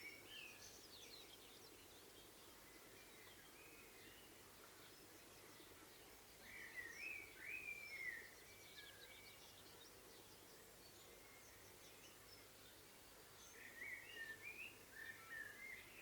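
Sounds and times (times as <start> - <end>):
bird warbling song: 0.0 - 16.0
faint outdoor background hiss: 0.0 - 16.0.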